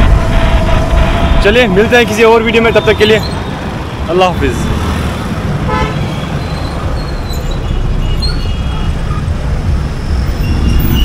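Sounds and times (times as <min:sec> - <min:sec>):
high-pitched squeals: 0:00.0 - 0:04.1, 0:06.0 - 0:11.0
engine and road rumble: 0:00.0 - 0:11.0.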